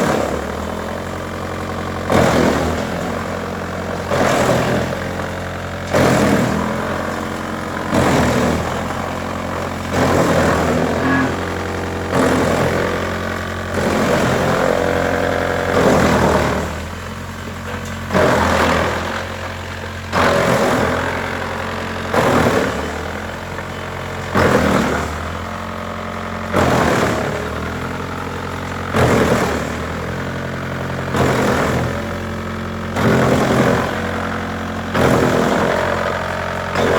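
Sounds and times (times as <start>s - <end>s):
wood chipper running: 0.0s - 36.9s.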